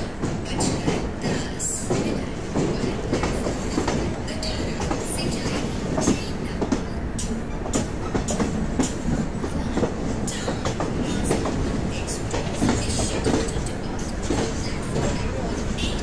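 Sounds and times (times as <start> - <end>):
steady train rumble: 0.0 - 16.0
train wheels clicking over joints: 0.0 - 16.0.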